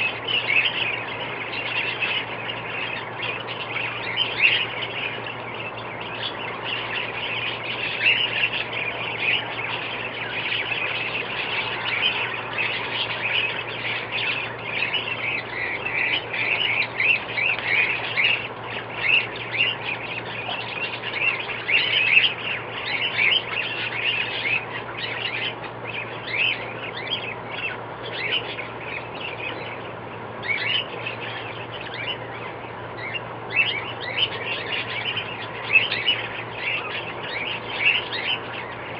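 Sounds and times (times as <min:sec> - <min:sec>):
birds chirping and squawking: 0:00.0 - 0:38.9
faint low hum: 0:00.0 - 0:38.9.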